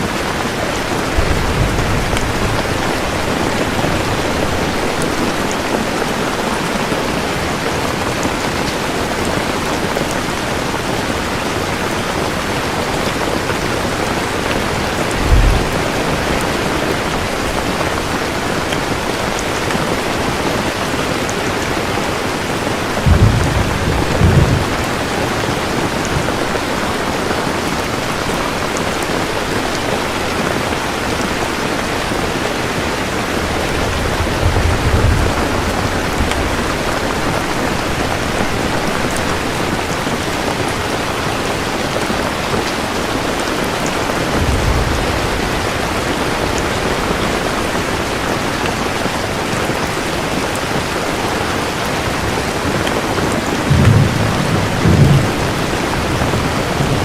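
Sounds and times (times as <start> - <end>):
low thunder rumbles: 0.0 - 7.4, 10.3 - 28.7, 29.4 - 41.5, 43.0 - 49.8, 52.1 - 57.0
heavy rainfall: 0.0 - 57.0.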